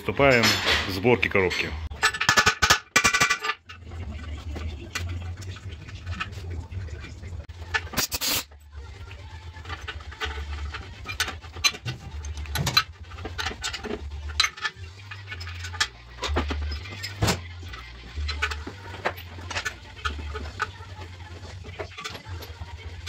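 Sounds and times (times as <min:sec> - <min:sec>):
metal parts clinking and knocking: 0:00.1 - 0:23.0.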